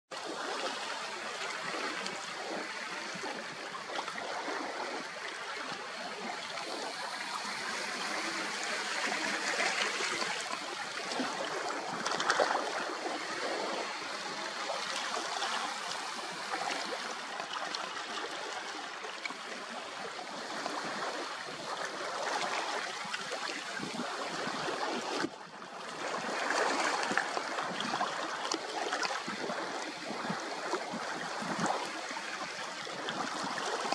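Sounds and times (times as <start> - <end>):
small waves lapping on rocks: 0.2 - 33.9.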